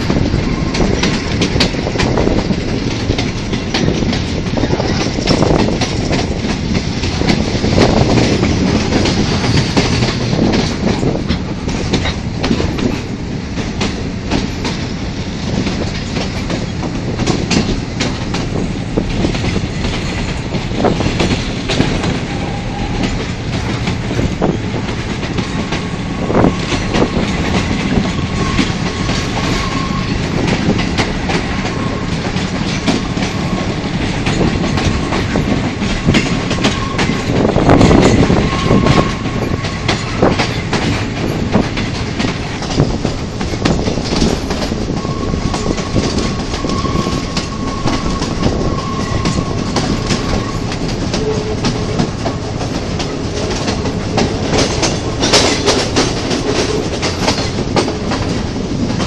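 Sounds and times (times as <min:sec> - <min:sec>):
wind rushing past: 0:00.0 - 0:51.1
diesel locomotive rumbling: 0:00.0 - 0:59.0
wheels clicking over rail joints: 0:00.0 - 0:59.0.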